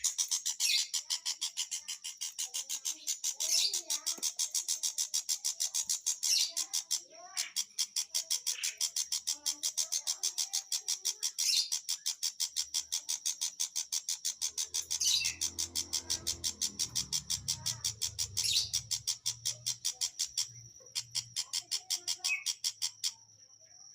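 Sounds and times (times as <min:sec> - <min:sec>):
bird calling high chips: 0:00.0 - 0:23.2.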